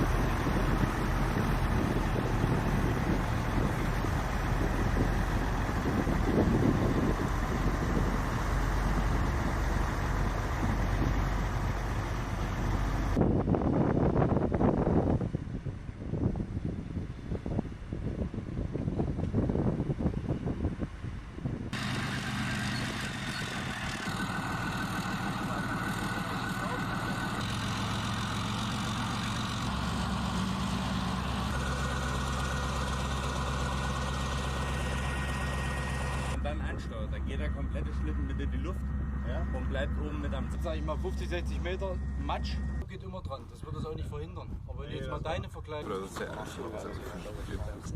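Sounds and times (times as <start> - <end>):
armoured vehicle engine running: 0.0 - 15.6, 20.8 - 43.9.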